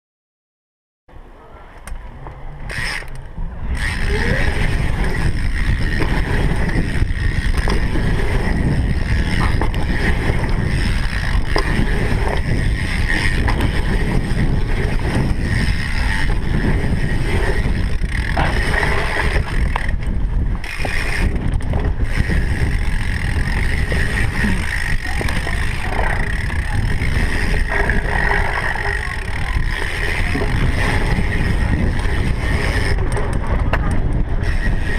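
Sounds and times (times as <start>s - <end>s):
bike tyres rolling on dirt: 2.0s - 34.9s
bike knocks and rattles: 2.2s - 34.9s
wind buffeting microphone: 2.7s - 34.9s.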